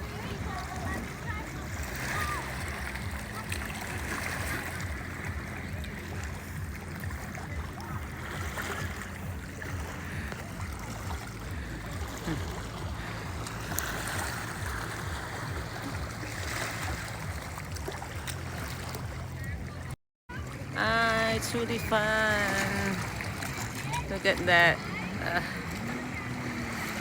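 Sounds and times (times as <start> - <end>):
low motor hum: 0.0 - 27.0
water splashing: 0.0 - 27.0.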